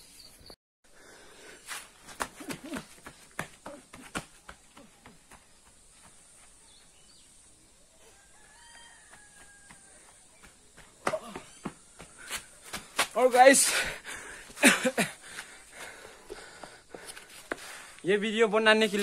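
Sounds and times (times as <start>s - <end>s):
high insect hum: 0.0s - 19.0s
footsteps crunching on dirt: 1.6s - 7.4s, 8.0s - 19.0s.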